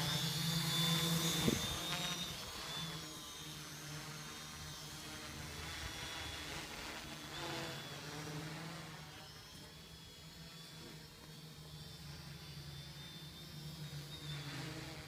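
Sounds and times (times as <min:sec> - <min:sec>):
quadcopter propellers buzzing: 0:00.0 - 0:15.0.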